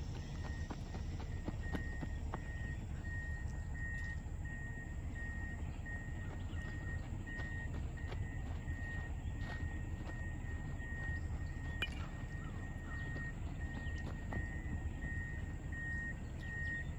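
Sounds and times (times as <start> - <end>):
faint high-pitched pulsing tone: 0.0 - 16.9
steady low rumble: 0.0 - 16.9.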